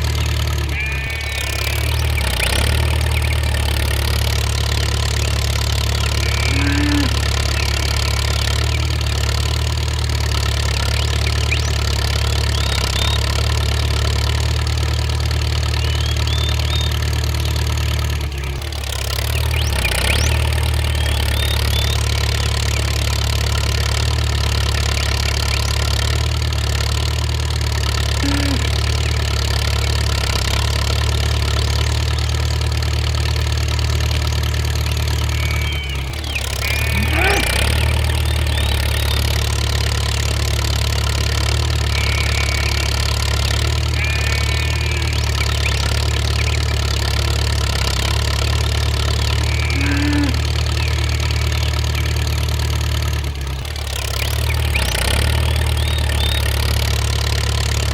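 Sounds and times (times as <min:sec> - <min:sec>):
engine idling: 0:00.0 - 0:57.9.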